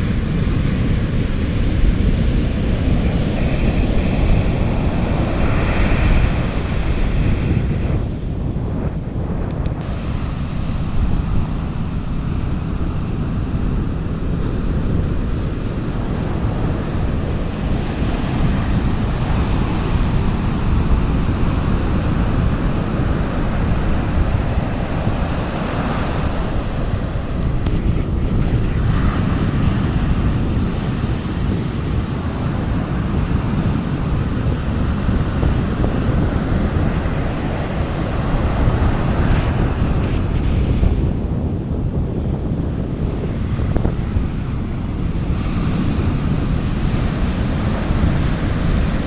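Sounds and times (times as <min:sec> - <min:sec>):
sea waves washing onto beach: 0:00.0 - 0:49.0
wind rumbling on microphone: 0:00.0 - 0:49.0.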